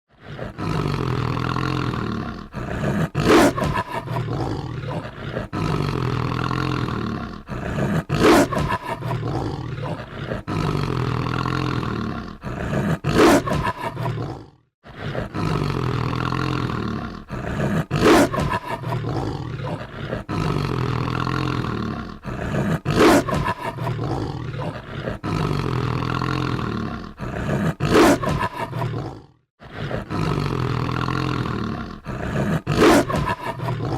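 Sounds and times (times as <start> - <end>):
deep monster growl: 0.1 - 33.9.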